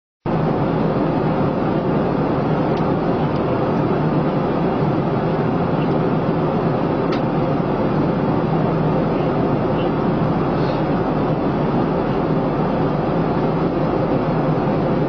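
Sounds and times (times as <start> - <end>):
airliner cabin engine rumble: 0.3 - 15.0.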